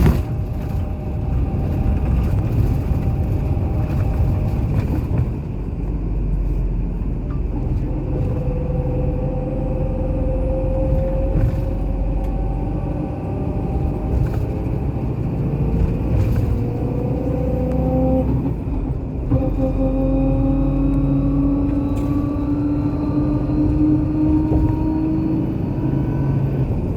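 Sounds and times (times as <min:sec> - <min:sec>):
engine and tyre rumble: 0:00.0 - 0:26.9
rising engine whine: 0:00.0 - 0:26.9.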